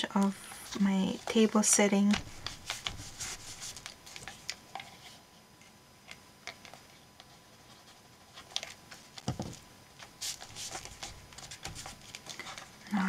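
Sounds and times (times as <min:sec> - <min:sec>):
paper rustling: 0:00.2 - 0:05.2, 0:06.6 - 0:12.8.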